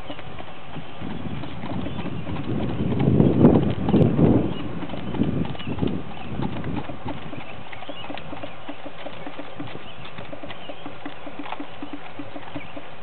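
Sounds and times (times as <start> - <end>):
hoofbeats on gravel: 0.0 - 13.0.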